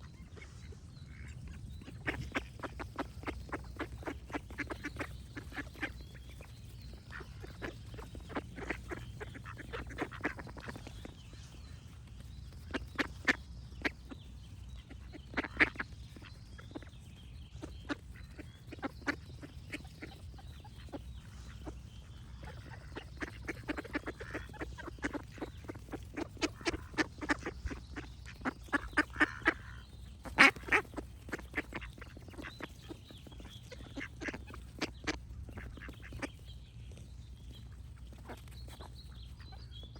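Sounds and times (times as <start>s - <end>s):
ducks quacking: 0.0s - 39.9s
faint birdsong: 0.0s - 39.9s.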